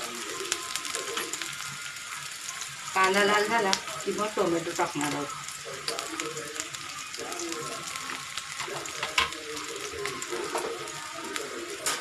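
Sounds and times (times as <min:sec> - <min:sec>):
oil popping and crackling: 0:00.0 - 0:12.0
onions sizzling in hot oil: 0:00.0 - 0:12.0.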